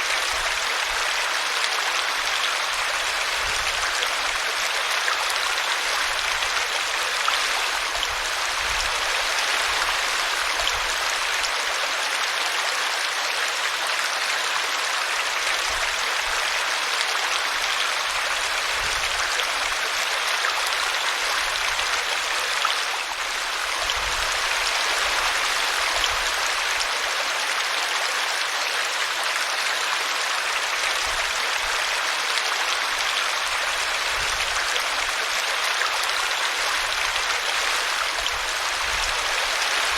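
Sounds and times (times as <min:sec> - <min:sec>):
brook water splashing: 0:00.0 - 0:39.9.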